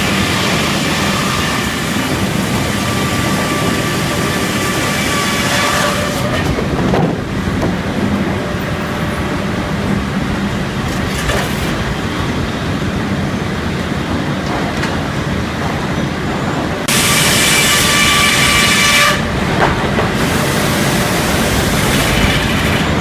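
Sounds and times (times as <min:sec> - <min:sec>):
sawmill machinery din: 0:00.0 - 0:13.2, 0:16.5 - 0:23.0.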